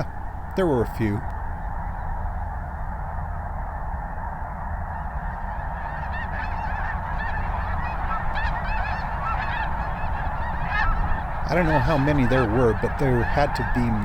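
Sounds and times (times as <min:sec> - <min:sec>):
flock of geese honking: 0:00.0 - 0:14.0.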